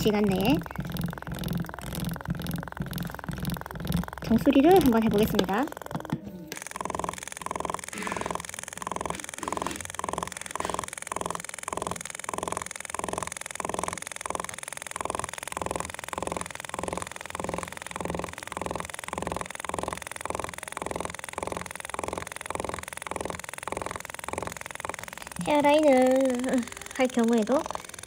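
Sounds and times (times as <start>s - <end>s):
tattoo machine buzzing in pulses: 0.0s - 28.0s.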